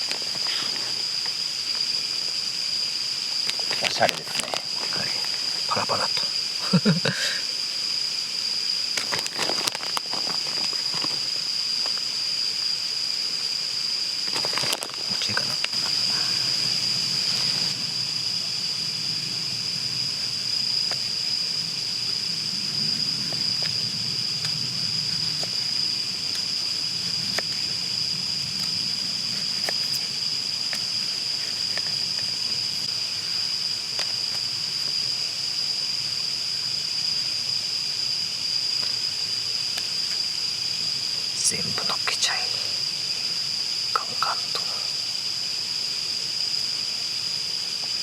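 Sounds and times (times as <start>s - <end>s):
insect chorus buzzing: 0.0s - 48.0s.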